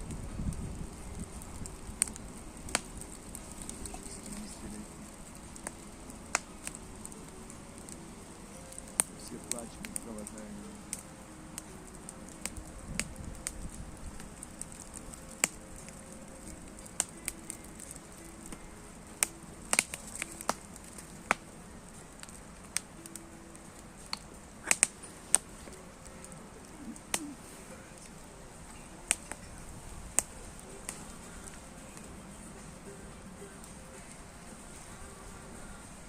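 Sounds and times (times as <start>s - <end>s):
bonfire crackling and popping: 0.0s - 36.0s
low steady fire hiss: 0.0s - 36.0s.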